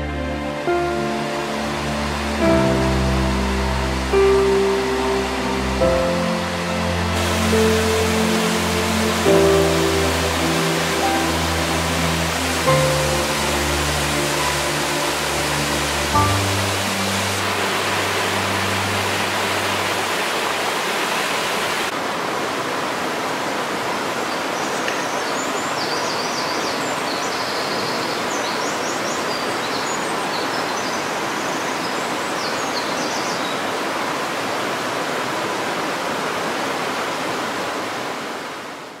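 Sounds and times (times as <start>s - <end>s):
stream cascading over rocks: 0.0s - 39.0s.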